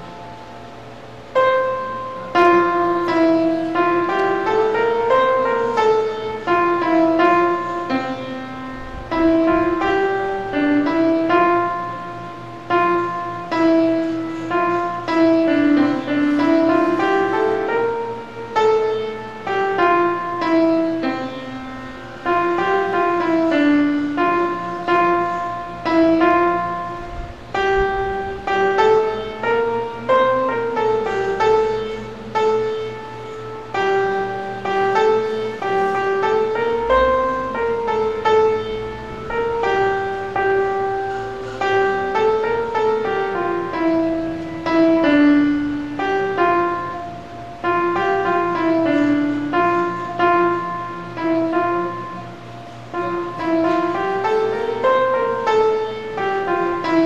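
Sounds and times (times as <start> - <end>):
piano playing hymn tune: 0.0 - 57.0.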